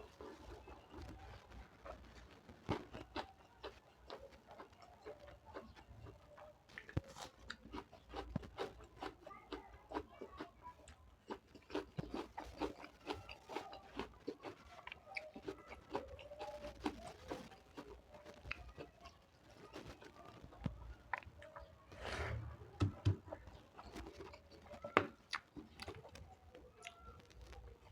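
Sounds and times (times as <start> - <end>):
chewing and mouth sounds: 0.0 - 21.9, 23.2 - 27.9.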